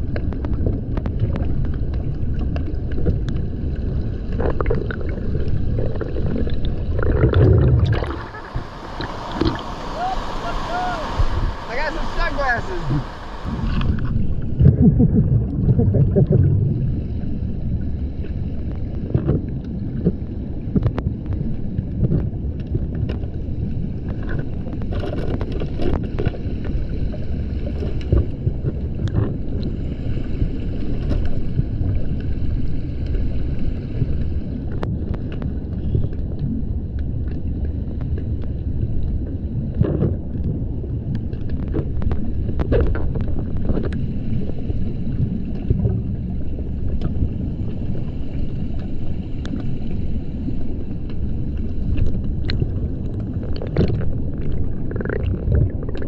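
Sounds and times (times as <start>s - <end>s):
underwater rumble of water: 0.0s - 56.0s.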